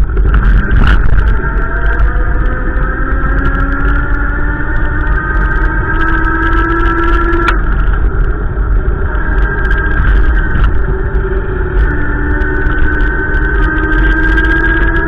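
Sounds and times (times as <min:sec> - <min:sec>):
drifting steady tones: 0:00.0 - 0:15.0
wind buffeting microphone: 0:00.0 - 0:15.0.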